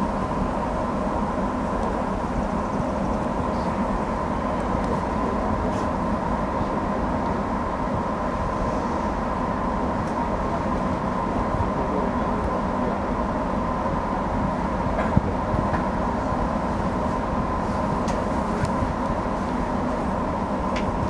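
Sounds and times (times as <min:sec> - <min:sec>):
electric train equipment humming: 0:00.0 - 0:21.0.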